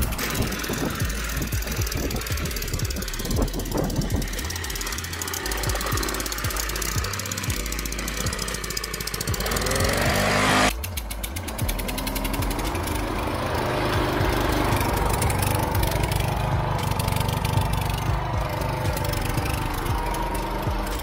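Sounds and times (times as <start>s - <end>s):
lawn mower engine running: 0.0s - 21.0s.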